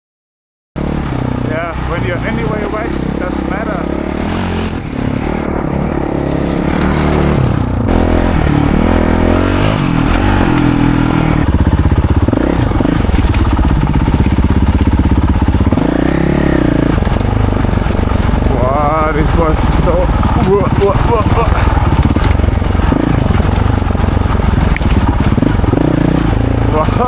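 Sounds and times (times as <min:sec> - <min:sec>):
dirt bike engine revving: 0:00.8 - 0:27.0.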